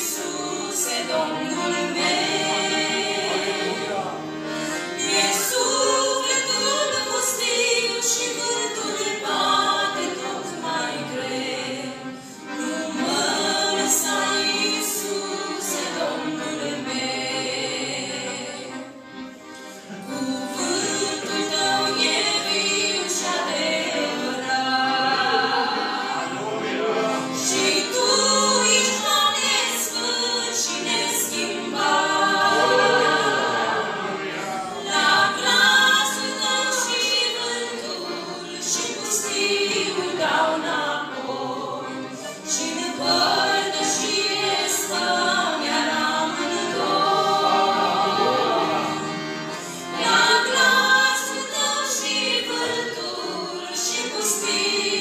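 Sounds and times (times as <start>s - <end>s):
women singing together: 0.0s - 18.9s, 20.0s - 55.0s.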